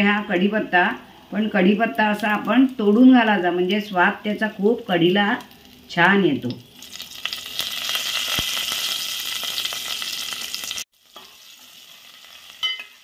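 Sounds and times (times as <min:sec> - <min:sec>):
spices sizzling in hot ghee: 0:00.6 - 0:13.0.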